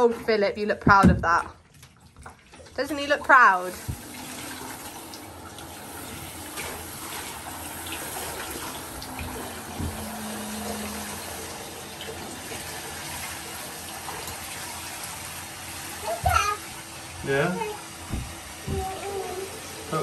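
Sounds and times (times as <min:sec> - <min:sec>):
shower head spraying water: 0:03.3 - 0:20.0.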